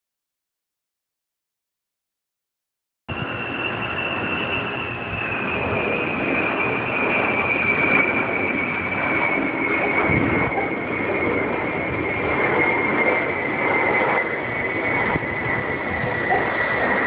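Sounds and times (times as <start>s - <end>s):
jet engine whine: 3.1s - 17.0s.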